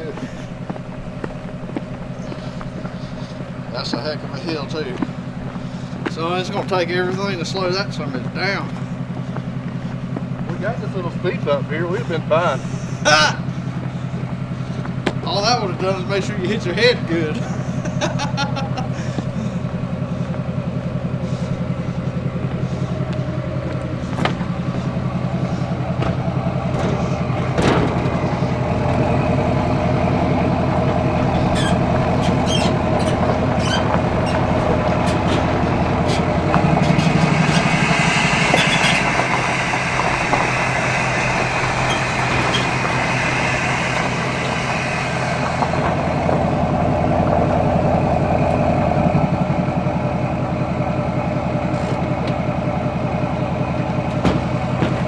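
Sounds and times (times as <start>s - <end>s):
engine whine: 0.0s - 55.0s
vehicle engine running: 0.0s - 55.0s.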